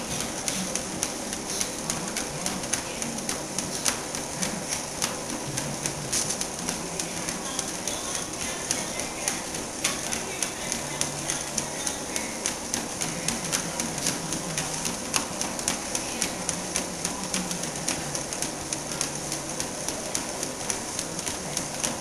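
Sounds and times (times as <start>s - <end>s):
dog claws clicking on treadmill: 0.0s - 22.0s.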